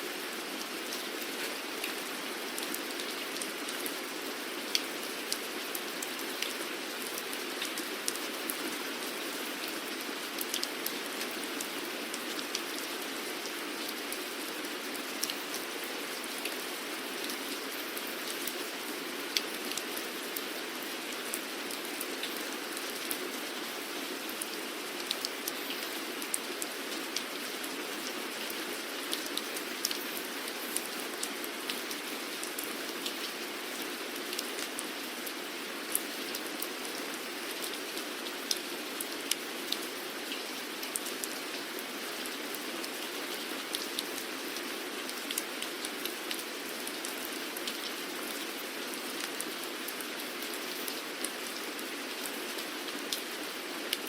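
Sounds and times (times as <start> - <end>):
rain drops ticking on hard surface: 0.1 - 54.0.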